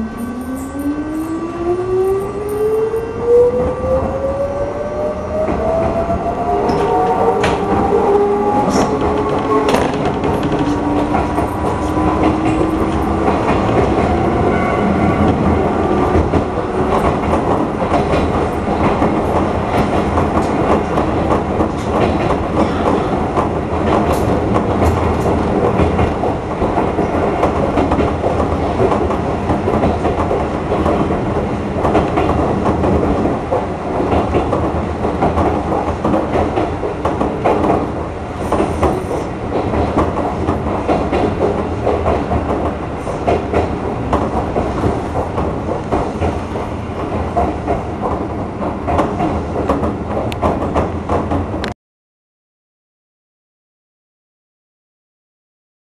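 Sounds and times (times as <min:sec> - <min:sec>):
train wheels clattering on rails: 0:05.3 - 0:51.8.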